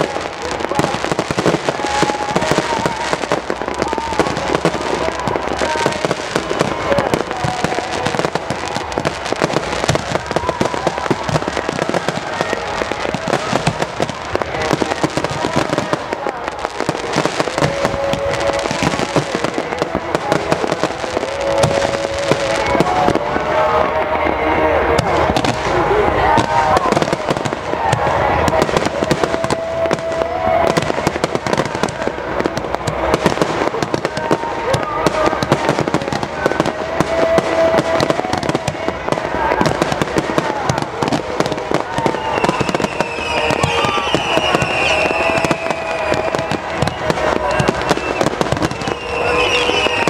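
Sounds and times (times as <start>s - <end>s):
fireworks crackling and popping: 0.0s - 50.0s.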